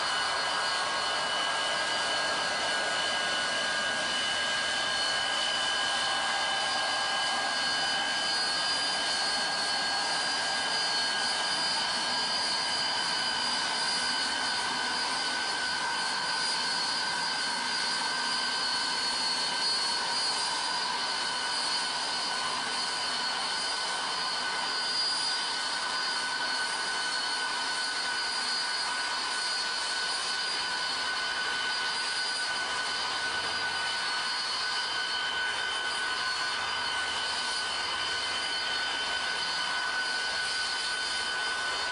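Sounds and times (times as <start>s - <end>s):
snow blower high whine: 0.0s - 41.9s.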